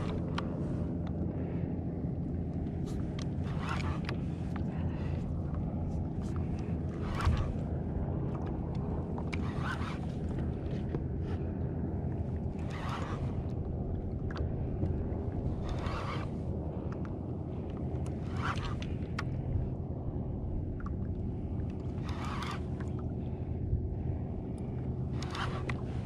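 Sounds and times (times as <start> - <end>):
wind rumble on microphone: 0.0 - 26.0
water slapping a kayak hull: 2.4 - 26.0.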